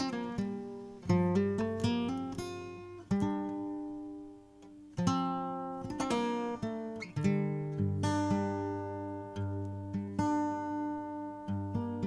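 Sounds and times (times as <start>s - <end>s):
acoustic guitar plucking: 0.0s - 12.0s.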